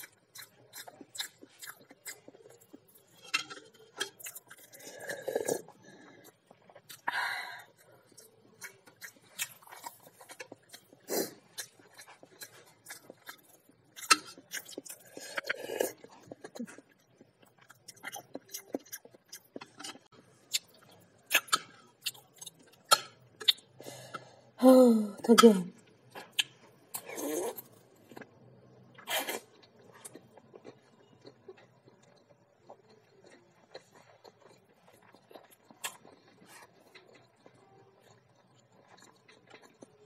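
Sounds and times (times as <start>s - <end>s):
chewing and mouth sounds: 0.0s - 24.3s, 25.8s - 40.0s.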